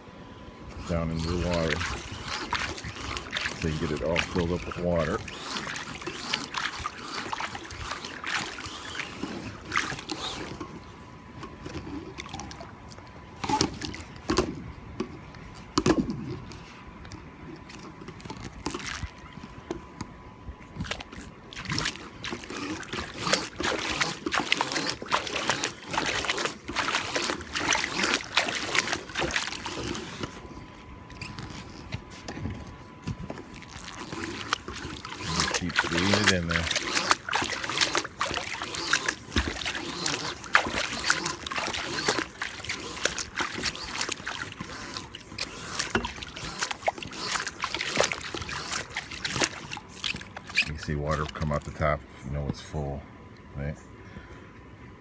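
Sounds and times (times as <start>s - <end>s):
water splashing and sloshing: 0.6s - 53.5s.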